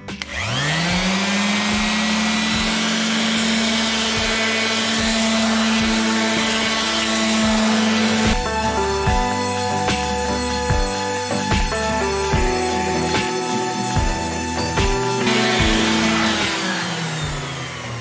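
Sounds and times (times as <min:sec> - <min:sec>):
orbital sander running: 0:00.0 - 0:18.0
sanding pad hissing on metal: 0:00.9 - 0:18.0.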